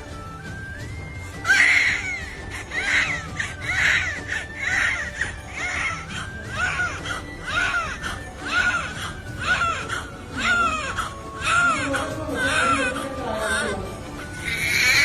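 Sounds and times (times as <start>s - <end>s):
music: 0.0s - 15.0s
newborn baby crying: 1.4s - 15.0s.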